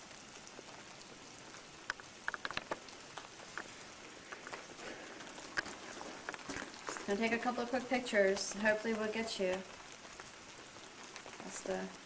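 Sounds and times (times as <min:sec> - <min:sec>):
raindrops tapping on umbrella: 0:00.0 - 0:12.0
steady rain falling: 0:00.0 - 0:12.0.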